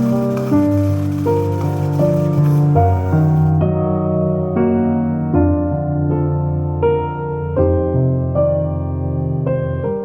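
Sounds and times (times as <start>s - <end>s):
soft piano chords: 0.0s - 10.0s.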